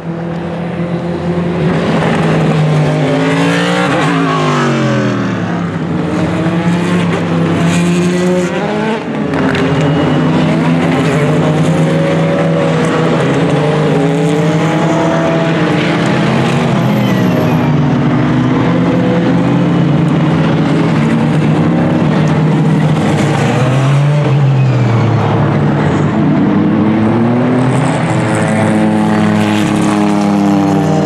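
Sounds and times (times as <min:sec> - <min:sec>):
race cars passing at speed: 0:00.0 - 0:31.0.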